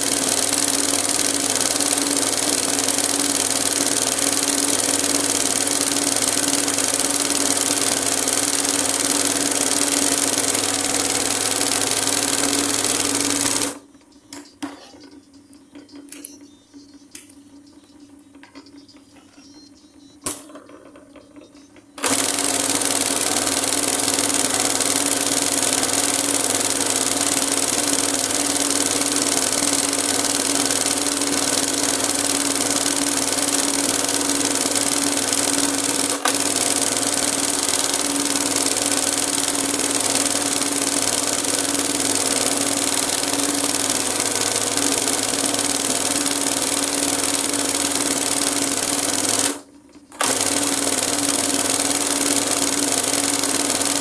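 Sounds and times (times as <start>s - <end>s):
embroidery machine stitching: 0.0s - 13.8s, 22.0s - 54.0s.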